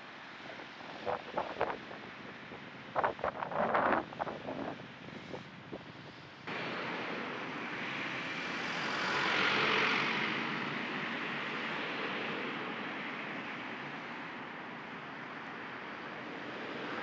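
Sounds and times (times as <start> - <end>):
road traffic rushing: 0.1 - 17.0.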